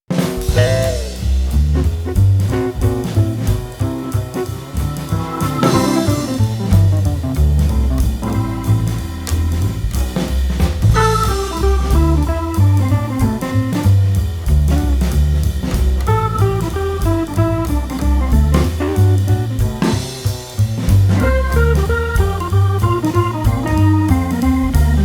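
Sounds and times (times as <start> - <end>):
instrumental jazz band music: 0.1 - 25.0.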